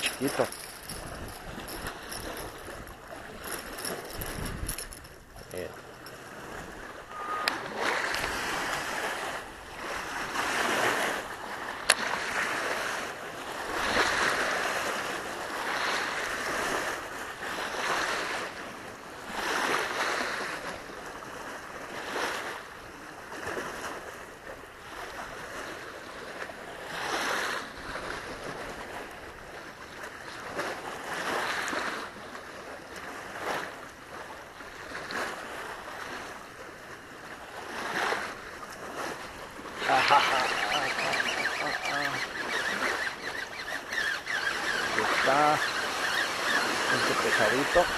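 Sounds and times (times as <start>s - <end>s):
waves lapping on shore: 0.0s - 47.9s.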